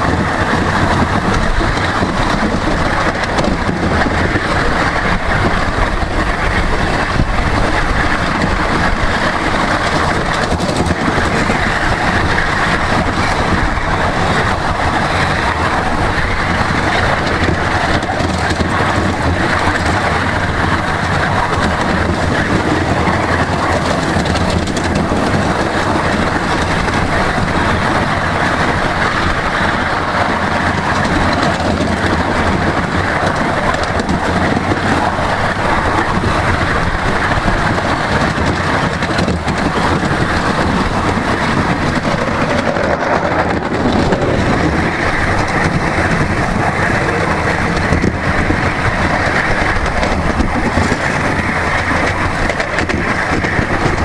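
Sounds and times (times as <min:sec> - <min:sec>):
miniature train wheels rumbling on rails: 0:00.0 - 0:54.0.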